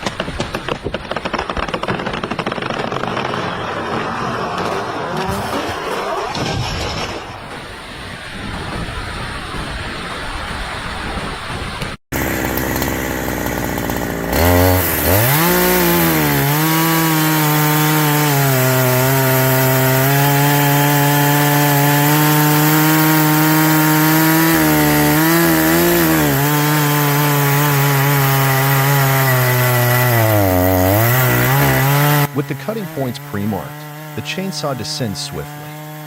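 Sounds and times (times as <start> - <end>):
chainsaw cutting wood: 0.0 - 7.2, 12.1 - 36.0.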